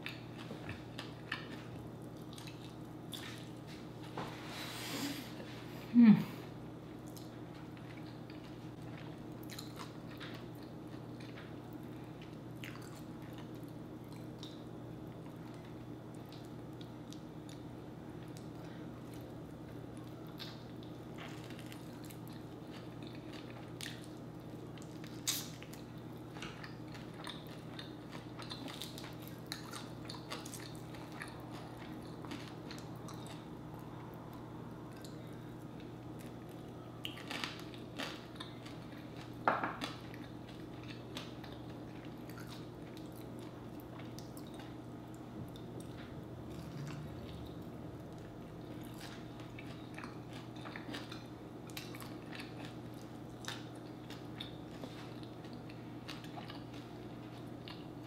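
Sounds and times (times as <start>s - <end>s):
person chewing chicken wings: 0.0s - 3.8s, 6.9s - 58.0s
steady low hum: 0.0s - 58.0s.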